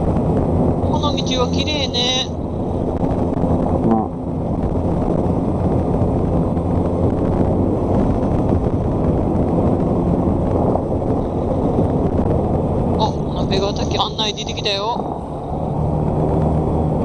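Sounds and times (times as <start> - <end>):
wind rumbling over microphone: 0.0 - 17.0.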